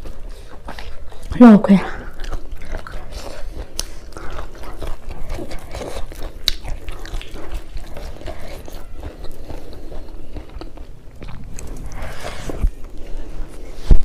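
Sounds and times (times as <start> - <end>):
chewing and mouth sounds: 0.0 - 14.0.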